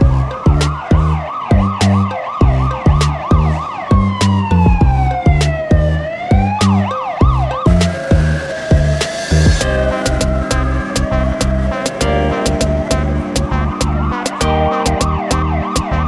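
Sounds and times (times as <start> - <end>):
background music with steady beat: 0.0 - 16.0
electronic siren yelping and wailing: 0.0 - 16.0.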